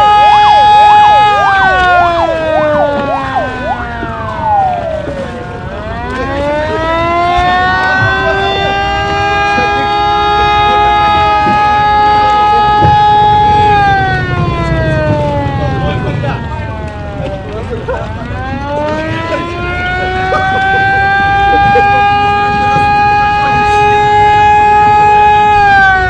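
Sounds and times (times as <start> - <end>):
second siren gliding down: 0.0 - 26.0
siren wailing: 0.0 - 26.0.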